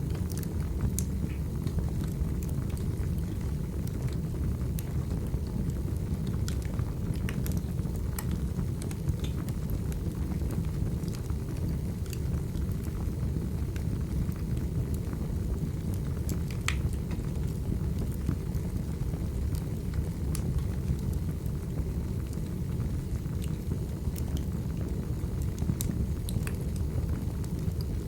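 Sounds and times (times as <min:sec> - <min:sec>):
fire crackling and popping: 0:00.0 - 0:28.0
wood fire rumbling: 0:00.0 - 0:28.0.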